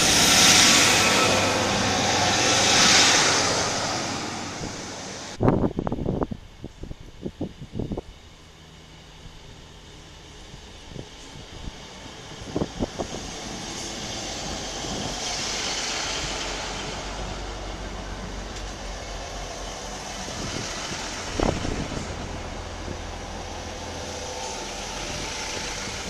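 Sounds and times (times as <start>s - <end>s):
train rumble and hiss: 0.0s - 26.0s.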